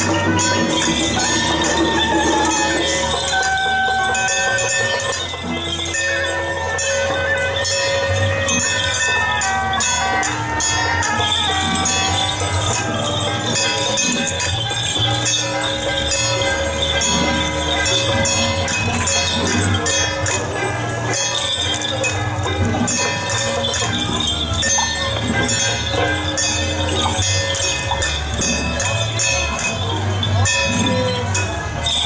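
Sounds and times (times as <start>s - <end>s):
jingling bells: 0.0s - 32.0s
metallic clashes: 0.0s - 32.0s.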